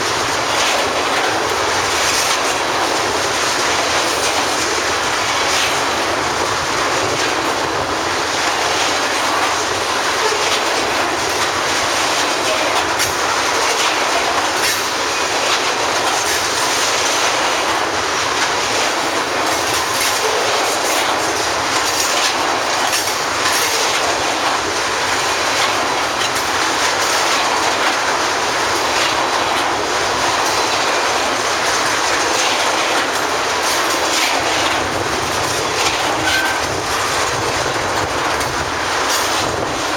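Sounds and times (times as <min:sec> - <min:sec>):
train wheels rumbling on rails: 0:00.0 - 0:39.9
wheels clicking over rail joints: 0:00.0 - 0:39.9.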